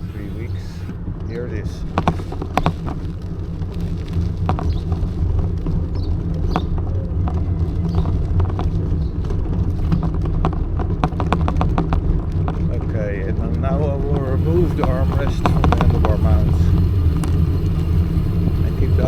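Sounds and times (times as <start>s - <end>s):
bicycle rattling and knocking: 0.0s - 19.0s
road vibration rumble: 0.0s - 19.0s
wind: 0.0s - 19.0s.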